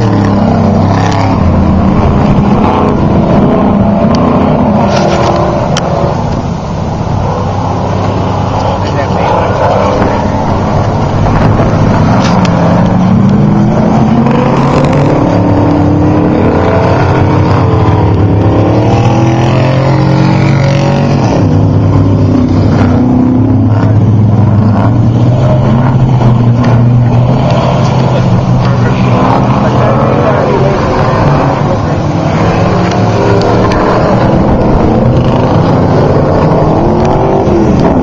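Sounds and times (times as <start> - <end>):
race truck engines revving: 0.0 - 38.0.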